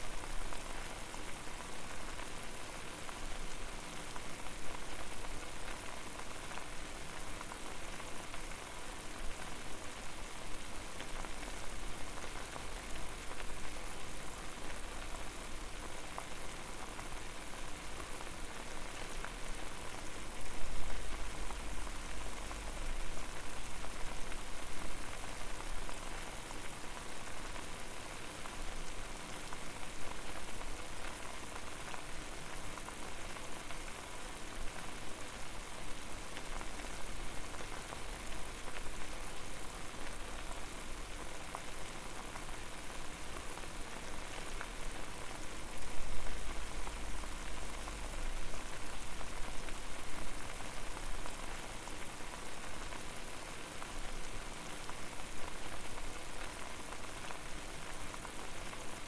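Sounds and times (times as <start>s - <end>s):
water boiling and bubbling: 0.0s - 59.0s.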